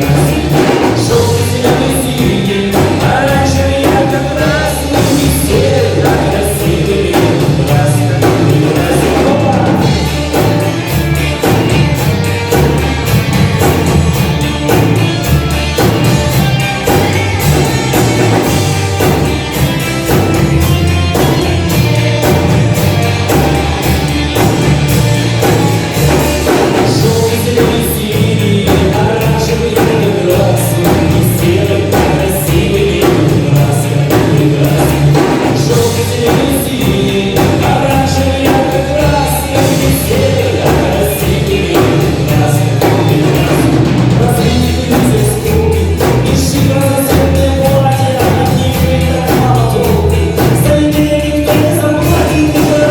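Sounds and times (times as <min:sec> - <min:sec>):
drum beat: 0:00.0 - 0:52.9
live rock band playing: 0:00.0 - 0:52.9.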